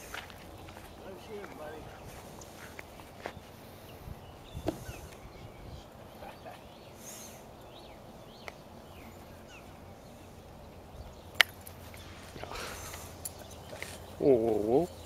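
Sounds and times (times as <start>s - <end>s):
faint bird chirps: 0.7s - 15.0s.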